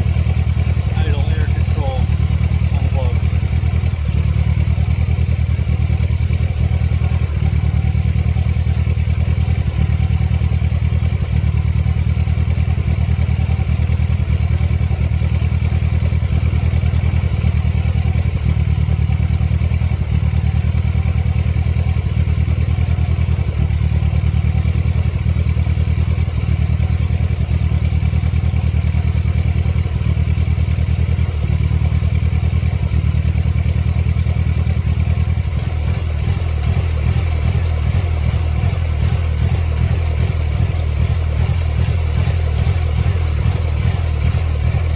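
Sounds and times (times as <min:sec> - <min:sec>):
car engine idling with stumbles: 0:00.0 - 0:44.9.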